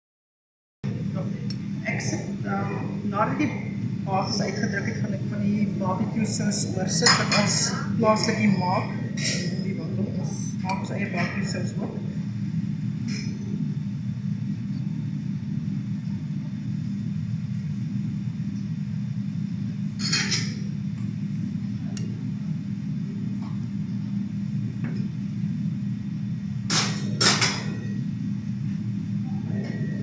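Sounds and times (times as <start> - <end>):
low machinery hum: 0.8 - 30.0.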